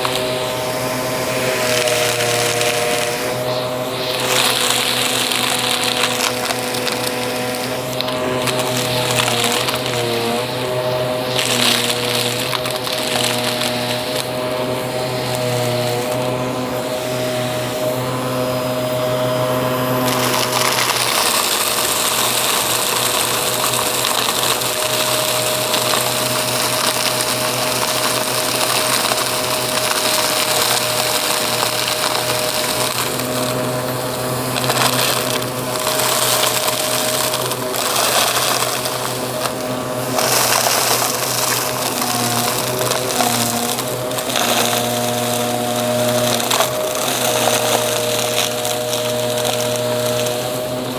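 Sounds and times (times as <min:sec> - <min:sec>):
debris crackling in vacuum: 0:00.0 - 0:50.9
vacuum cleaner motor hum: 0:00.0 - 0:50.9.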